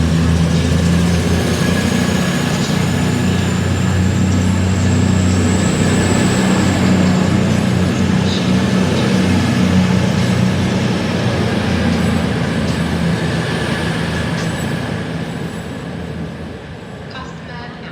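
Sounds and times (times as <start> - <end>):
diesel train engines droning: 0.0 - 17.9
train wheels rumbling on rails: 0.0 - 17.9.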